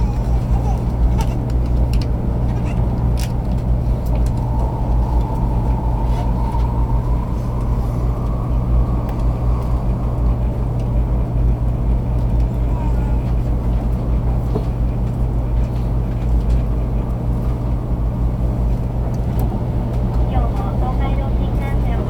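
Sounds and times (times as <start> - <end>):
train cabin low rumble: 0.0 - 22.0.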